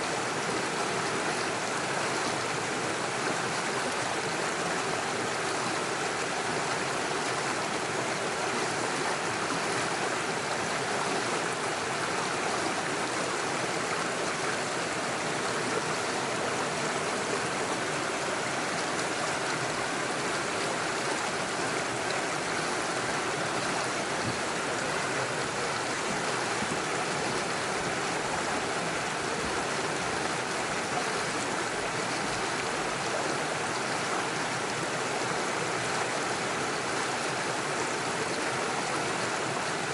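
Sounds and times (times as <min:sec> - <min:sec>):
water rushing over stones: 0:00.0 - 0:39.9.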